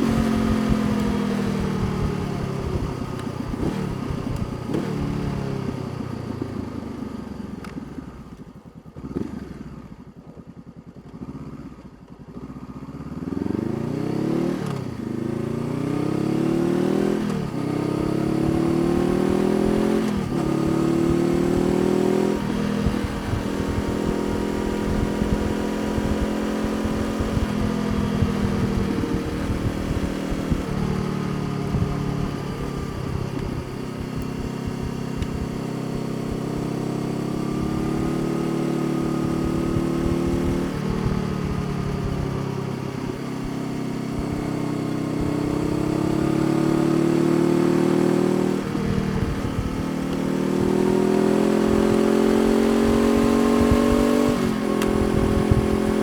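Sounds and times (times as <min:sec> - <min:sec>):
motorcycle engine revving: 0:00.0 - 0:07.0, 0:08.8 - 0:56.0.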